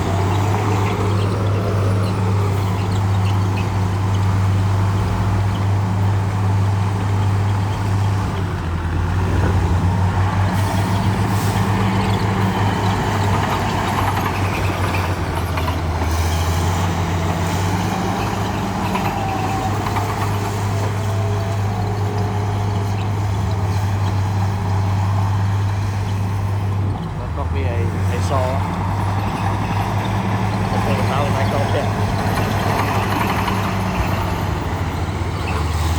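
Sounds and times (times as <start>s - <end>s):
heavy diesel engine droning: 0.0s - 35.9s.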